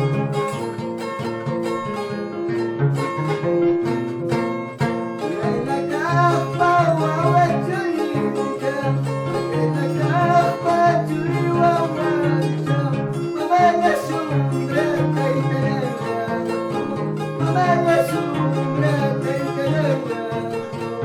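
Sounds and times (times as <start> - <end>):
harp playing: 0.0 - 21.0.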